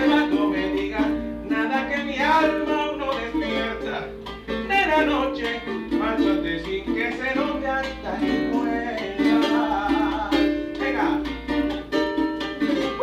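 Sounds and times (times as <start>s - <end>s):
strummed string instrument chords: 0.0s - 13.0s.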